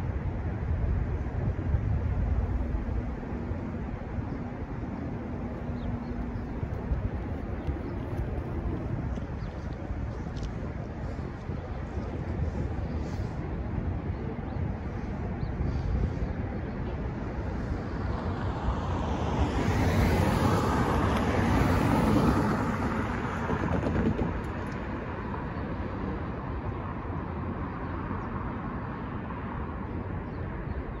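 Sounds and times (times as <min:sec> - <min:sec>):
road traffic passing: 0:00.0 - 0:31.0
wind buffeting microphone: 0:00.0 - 0:31.0.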